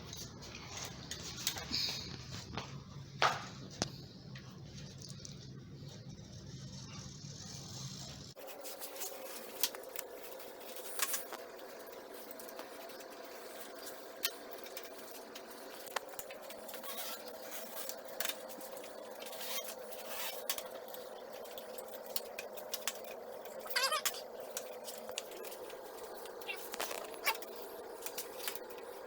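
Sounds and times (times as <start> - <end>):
clicks and scratches on window screen: 4.9 - 29.0.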